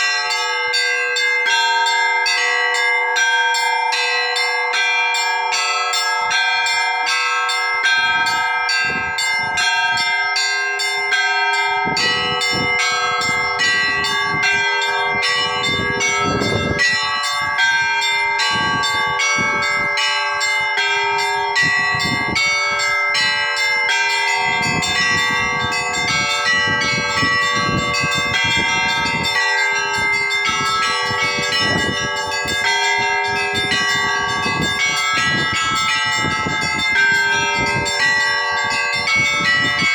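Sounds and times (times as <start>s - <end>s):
small church bells ringing: 0.0s - 39.9s.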